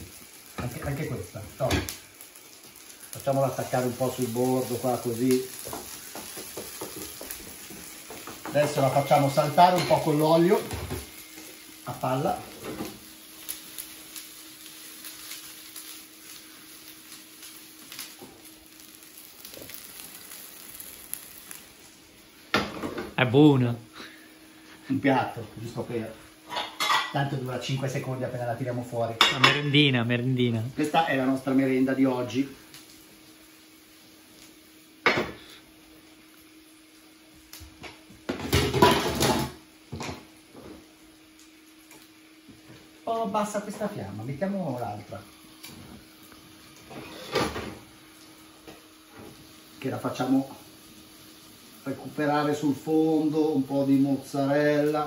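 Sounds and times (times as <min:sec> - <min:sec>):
dough sizzling in hot oil: 0:00.0 - 0:55.0.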